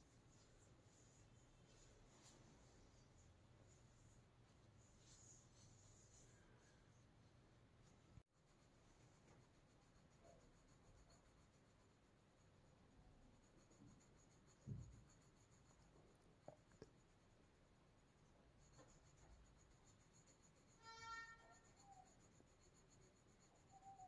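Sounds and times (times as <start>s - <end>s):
pencil scratching on paper: 0.0s - 7.1s, 7.8s - 24.0s.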